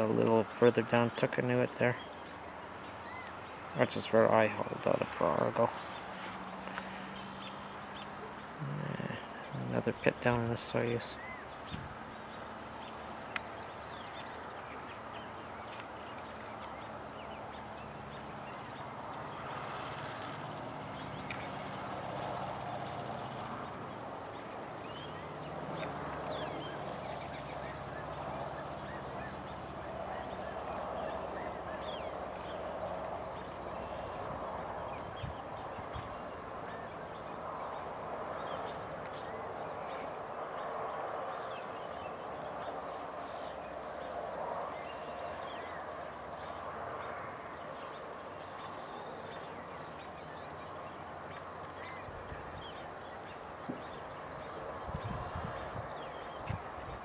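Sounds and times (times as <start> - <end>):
insect chirping trill: 0.0 - 57.0
rustling hiss: 1.8 - 57.0.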